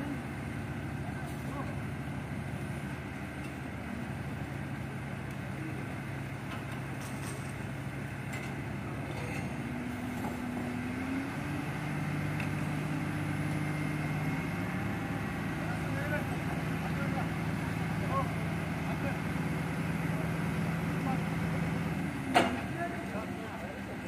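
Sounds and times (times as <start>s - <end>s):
heavy equipment engine running: 0.0s - 24.0s.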